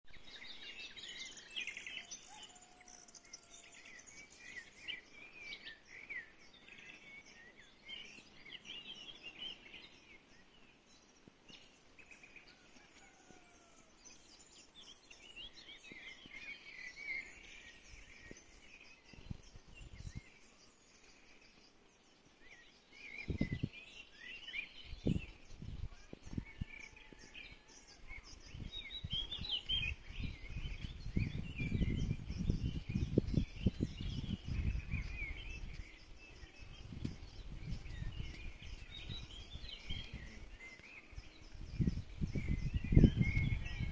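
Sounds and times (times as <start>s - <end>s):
small birds chirping: 0.1s - 43.9s.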